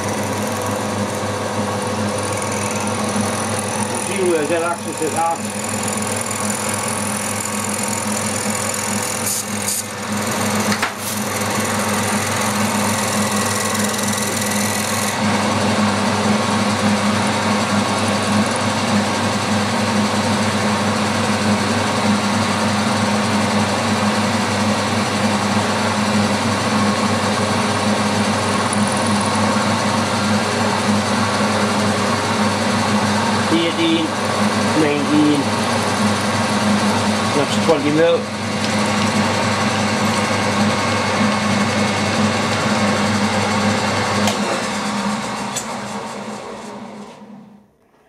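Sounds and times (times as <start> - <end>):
milling machine spindle running: 0.0 - 47.4.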